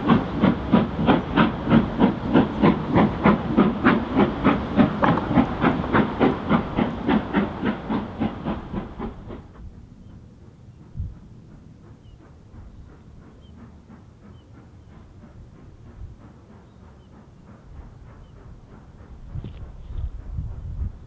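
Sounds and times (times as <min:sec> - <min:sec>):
steam hiss: 0:00.0 - 0:09.5, 0:10.7 - 0:21.0
steam locomotive chuffing: 0:00.0 - 0:21.0.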